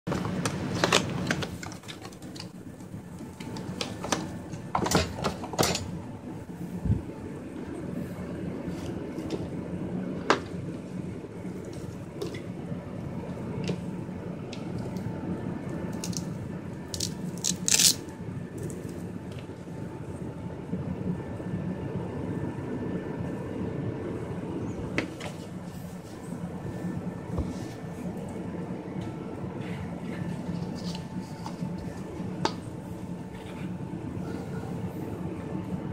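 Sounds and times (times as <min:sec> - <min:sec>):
steady low hum: 0:00.1 - 0:35.9.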